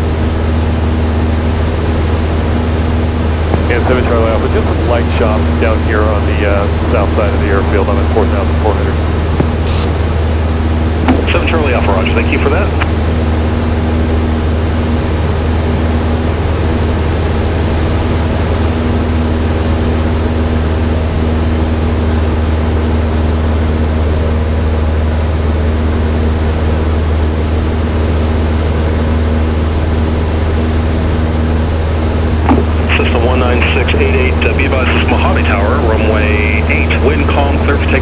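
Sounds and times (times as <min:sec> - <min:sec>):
propeller plane engine droning: 0:00.0 - 0:38.0.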